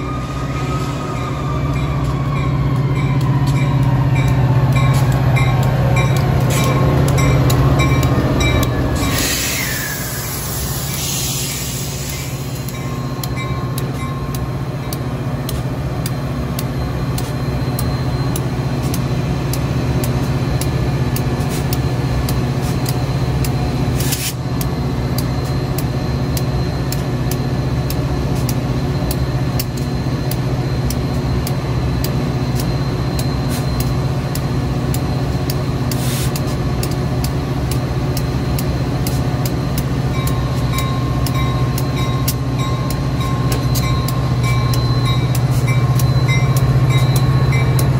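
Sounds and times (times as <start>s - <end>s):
diesel locomotive engine drone: 0.0s - 47.9s.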